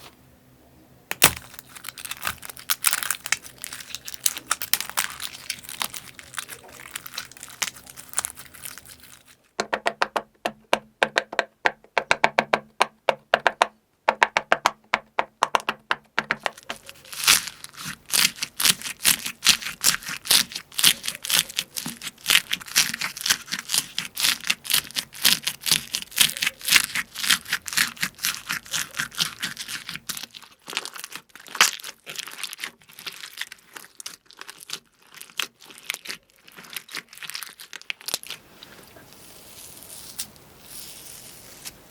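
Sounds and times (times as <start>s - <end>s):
slime crackling and popping: 1.1s - 9.4s, 16.2s - 41.8s.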